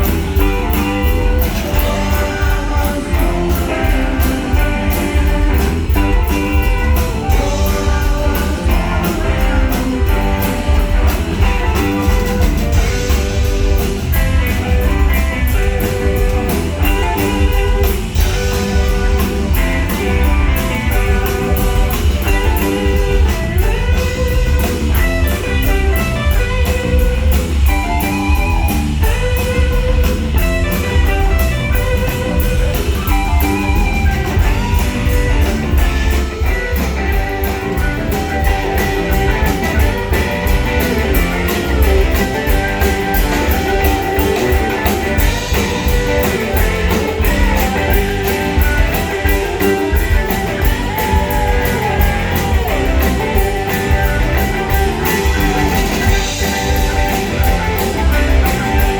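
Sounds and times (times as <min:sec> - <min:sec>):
bass guitar: 0:00.0 - 0:58.9
drums with cymbal beat: 0:00.0 - 0:58.9
electric guitar melody: 0:00.0 - 0:58.9.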